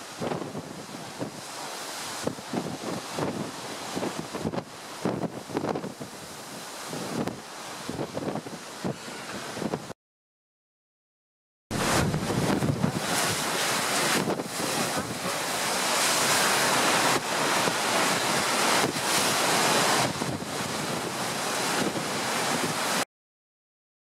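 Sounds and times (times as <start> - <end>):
sea washing: 0.0 - 9.9, 11.7 - 23.0
wind rushing over microphone: 0.0 - 10.0, 11.7 - 23.0.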